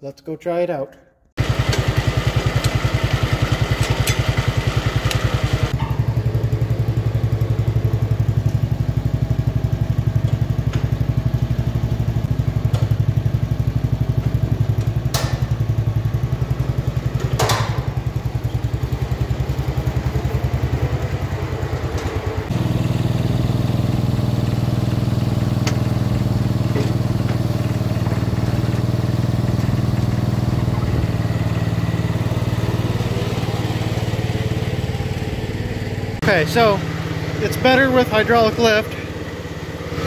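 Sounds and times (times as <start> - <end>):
tractor engine running: 1.4 - 40.0.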